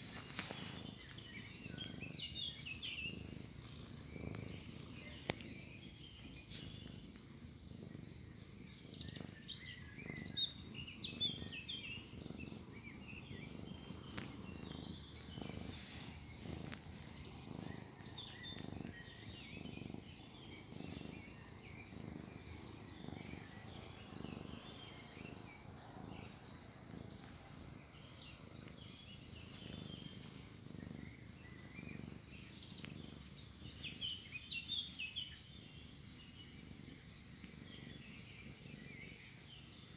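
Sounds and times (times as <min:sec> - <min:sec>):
cat purring: 0:00.0 - 0:39.9
small birds chirping: 0:00.0 - 0:39.9.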